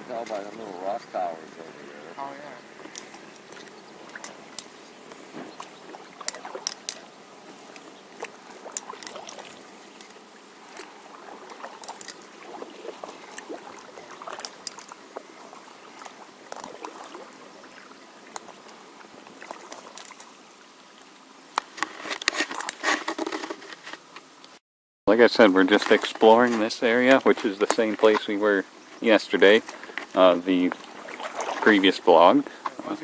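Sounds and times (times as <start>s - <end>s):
kayak paddle dipping in water: 2.7s - 24.2s, 25.4s - 33.0s.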